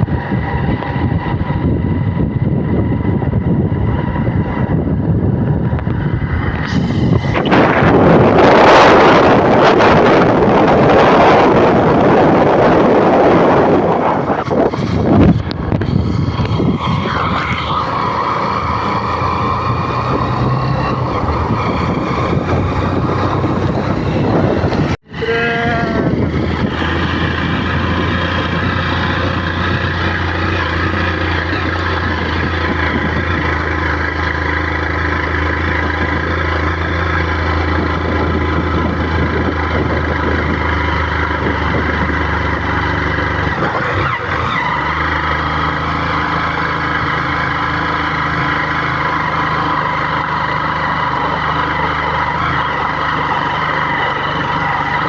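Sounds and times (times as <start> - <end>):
road noise: 0.0 - 55.0
vehicle engine running: 0.0 - 55.0.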